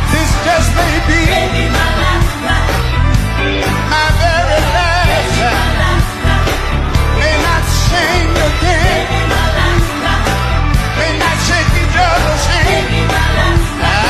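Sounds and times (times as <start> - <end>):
gospel band playing: 0.0 - 14.0.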